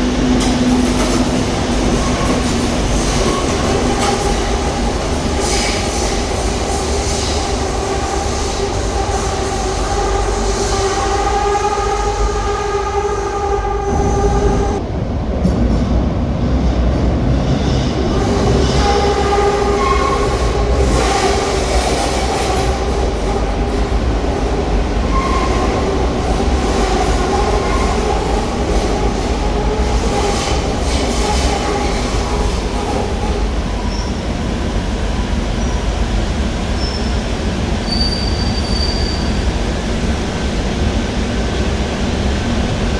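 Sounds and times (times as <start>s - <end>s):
train whine: 0.0s - 42.9s.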